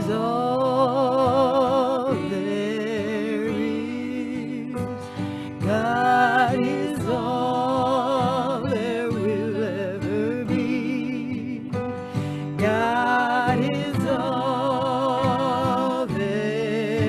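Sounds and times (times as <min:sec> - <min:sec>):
acoustic guitar: 0:00.0 - 0:17.0
women singing: 0:00.0 - 0:17.0.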